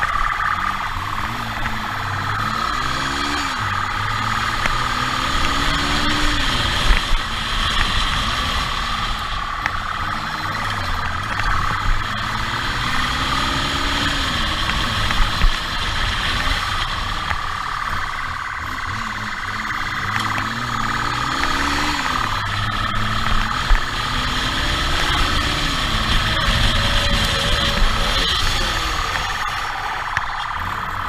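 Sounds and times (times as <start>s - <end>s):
road noise: 0.0s - 31.0s
vehicle engine revving: 0.0s - 31.0s.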